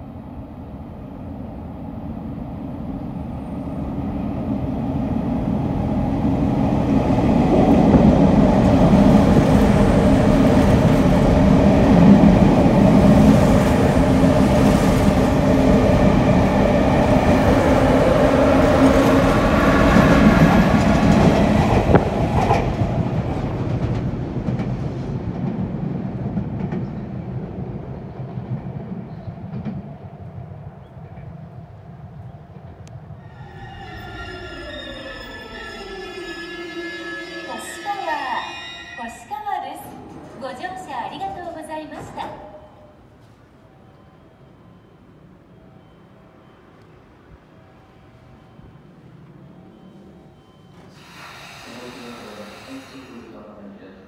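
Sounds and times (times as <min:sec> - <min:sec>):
electric train passing at speed: 0:00.0 - 0:54.0.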